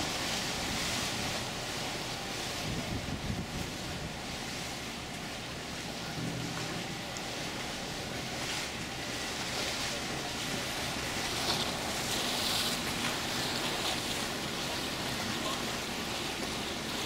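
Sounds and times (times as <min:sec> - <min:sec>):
choppy seawater splashing: 0:00.0 - 0:17.0.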